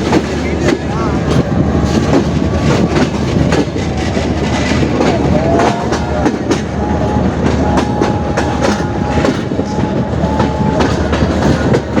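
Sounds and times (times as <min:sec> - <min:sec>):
train wheels clicking over rail joints: 0:00.0 - 0:12.0.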